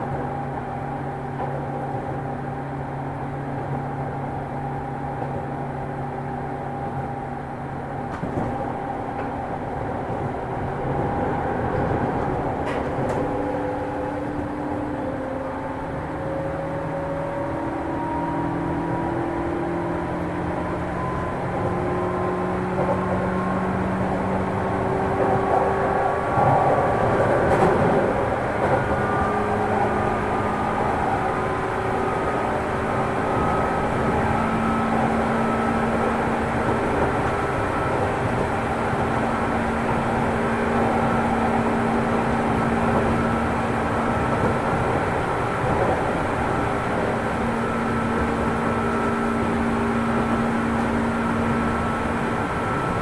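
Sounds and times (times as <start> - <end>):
train motor hum and whine: 0.0 - 53.0
wheels rumbling on rails: 0.0 - 53.0.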